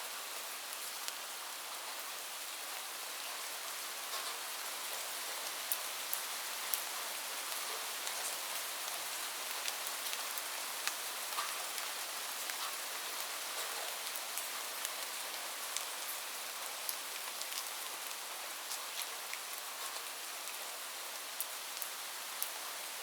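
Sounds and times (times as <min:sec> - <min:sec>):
raindrops ticking on a surface: 0:00.6 - 0:23.0.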